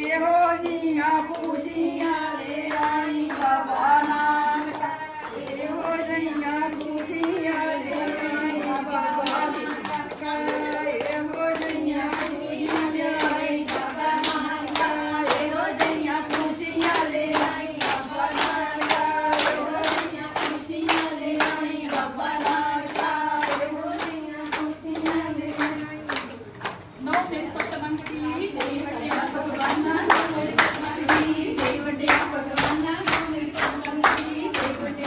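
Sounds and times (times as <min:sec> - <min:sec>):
group hand clapping: 0:00.0 - 0:35.0.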